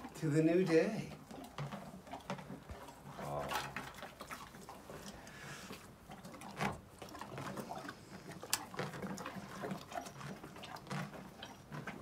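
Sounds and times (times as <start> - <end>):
horse chewing and crunching: 0.0 - 12.0.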